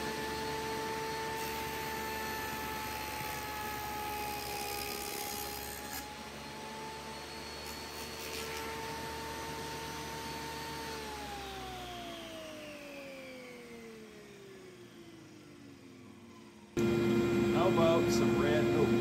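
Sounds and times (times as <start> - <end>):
table saw whining: 0.0 - 19.0.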